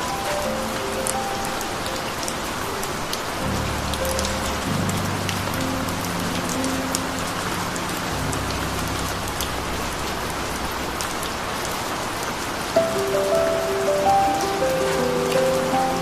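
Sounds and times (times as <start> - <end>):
slow single-note melody: 0.0 - 11.7, 12.8 - 16.0
low held chords: 0.0 - 16.0
rain pattering: 0.0 - 16.0.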